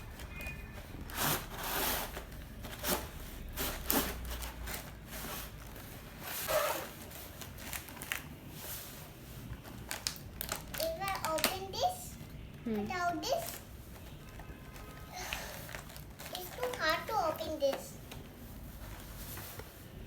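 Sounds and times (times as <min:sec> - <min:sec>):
packaging rubbing and tearing: 0:00.0 - 0:12.4, 0:13.3 - 0:17.5.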